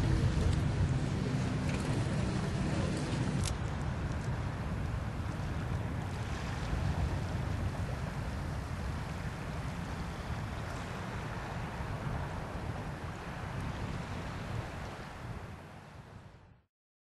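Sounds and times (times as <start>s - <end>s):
wind on microphone: 0.0s - 16.6s.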